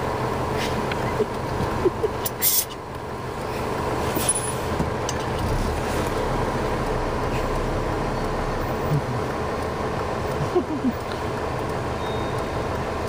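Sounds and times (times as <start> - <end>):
vehicle engines and road traffic: 0.0 - 13.0.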